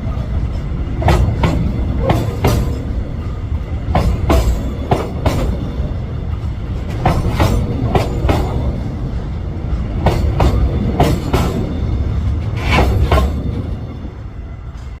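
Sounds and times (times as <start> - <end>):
train low rumble: 0.0 - 15.0
train wheels clacking over rail joints: 0.0 - 15.0.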